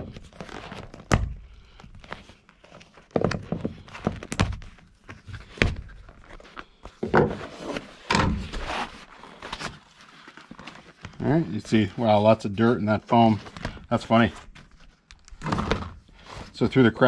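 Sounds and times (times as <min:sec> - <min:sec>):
vinyl cover pulled off foam: 0:00.0 - 0:17.0.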